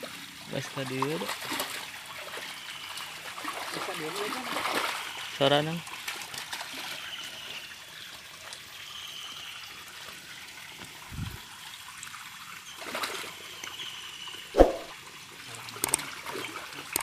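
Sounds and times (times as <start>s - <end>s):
water trickling into pond: 0.0s - 17.0s.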